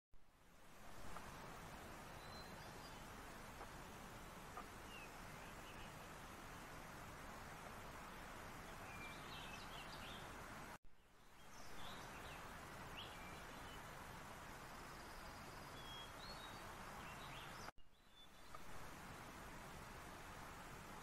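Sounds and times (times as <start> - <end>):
outdoor background hiss: 0.2 - 21.0
distant small birds chirping: 0.4 - 21.0.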